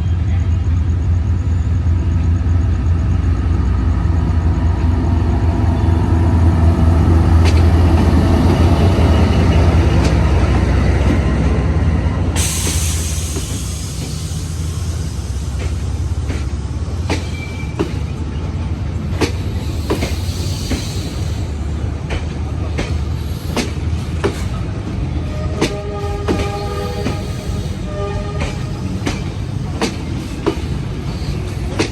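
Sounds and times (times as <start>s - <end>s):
locomotive engine rumble: 0.0s - 31.9s.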